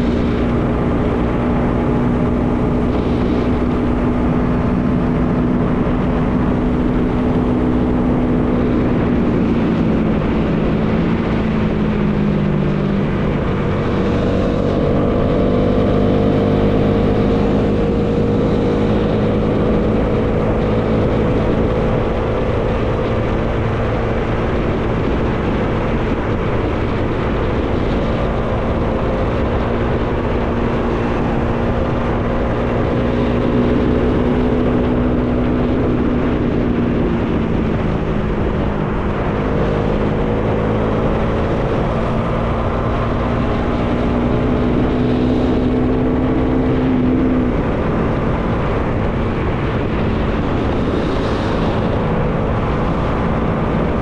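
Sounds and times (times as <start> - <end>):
motorcycle engine running: 0.0 - 54.0
wind rushing: 0.0 - 54.0.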